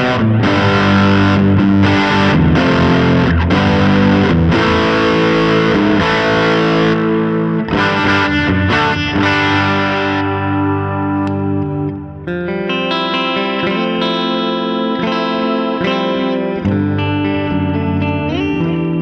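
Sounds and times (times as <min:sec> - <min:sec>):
distorted electric guitar chords: 0:00.0 - 0:19.0.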